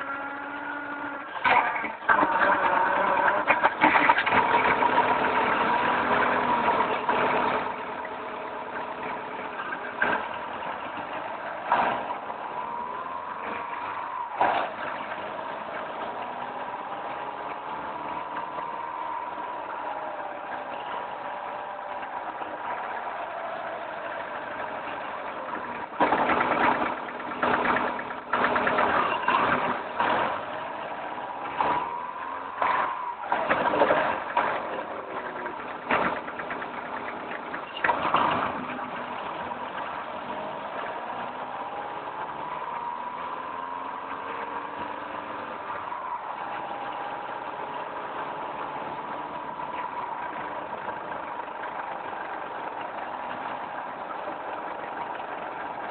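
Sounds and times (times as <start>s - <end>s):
car running at low speed: 0.0s - 55.9s
loud irregular car noises: 0.0s - 55.9s.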